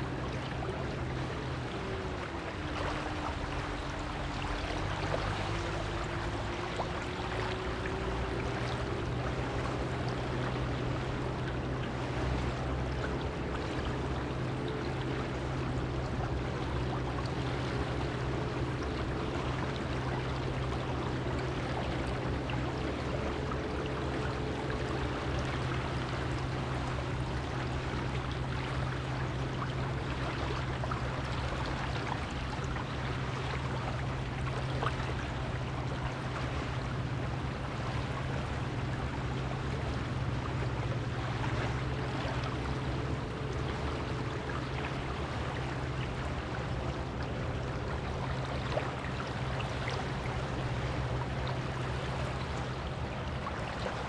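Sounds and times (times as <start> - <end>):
low hum: 0.0 - 54.0
surf washing on beach: 0.0 - 54.0.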